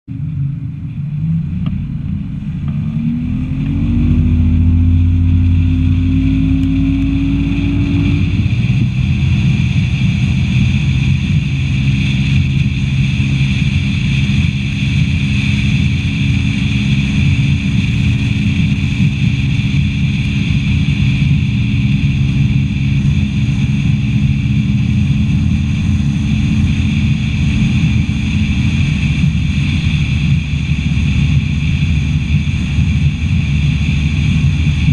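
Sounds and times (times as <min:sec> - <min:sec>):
outboard motor accelerating: 0:00.0 - 0:34.9
water and wind rushing: 0:00.1 - 0:34.9.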